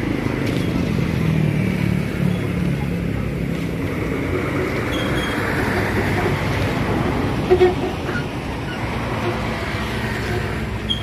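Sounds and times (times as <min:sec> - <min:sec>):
road traffic rumble: 0:00.0 - 0:11.0
vehicle engine hum: 0:00.0 - 0:11.0.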